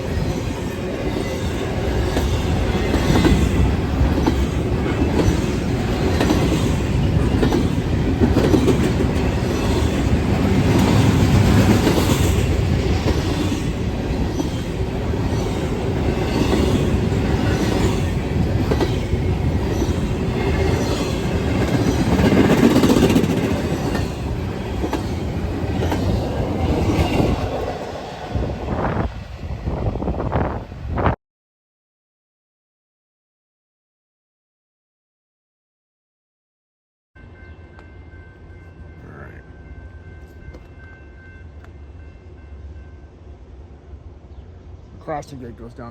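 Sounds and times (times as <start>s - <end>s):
freight train rail noise: 0.0s - 31.2s, 37.2s - 45.9s.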